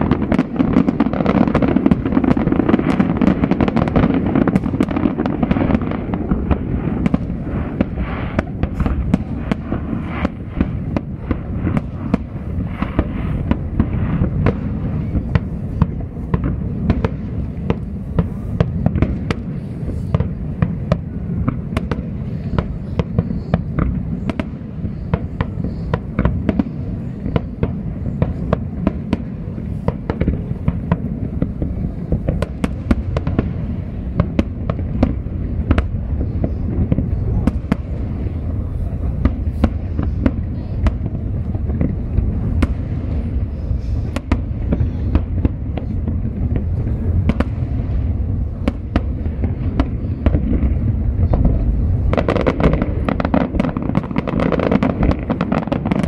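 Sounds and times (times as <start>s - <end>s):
fireworks cracks and pops: 0.0s - 56.0s.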